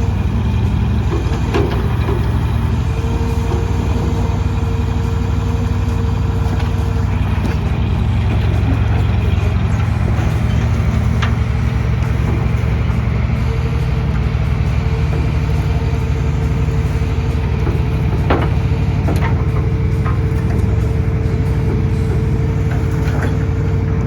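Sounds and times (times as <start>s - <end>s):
truck engine idling low: 0.0s - 24.0s.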